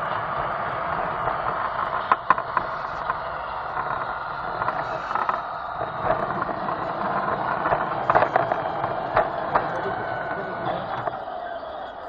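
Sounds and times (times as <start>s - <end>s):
toy train clicks and rattles: 0.0s - 12.0s
toy train motor whine: 0.0s - 12.0s.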